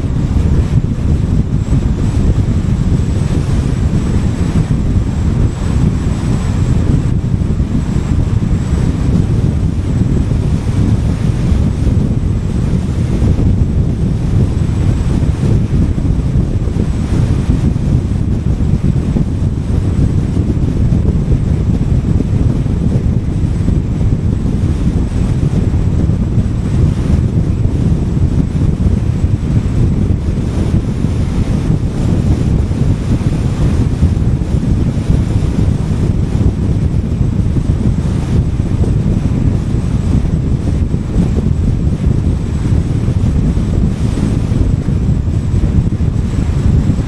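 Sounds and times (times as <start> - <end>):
wind noise on microphone: 0.0 - 47.0.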